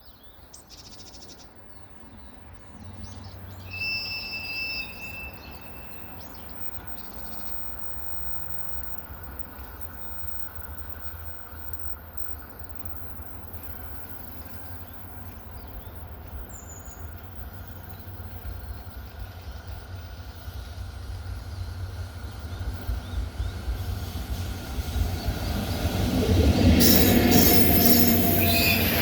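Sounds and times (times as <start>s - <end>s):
train approaching: 0.1s - 29.0s.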